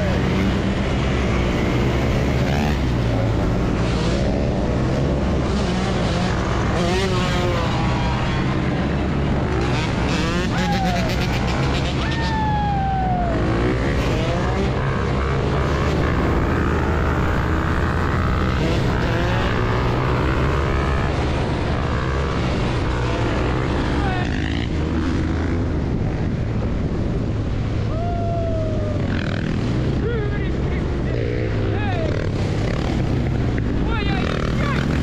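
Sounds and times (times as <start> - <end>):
motorcycle engines droning: 0.0 - 35.0.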